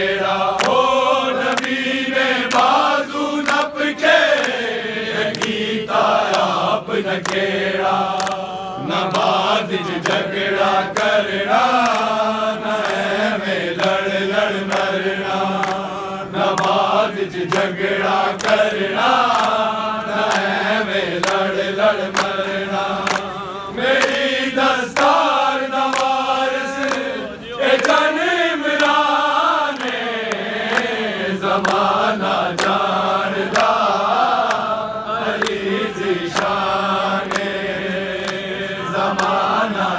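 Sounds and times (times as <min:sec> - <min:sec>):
hand-claps: 0:00.0 - 0:39.9
men chanting devotional song: 0:00.0 - 0:39.9.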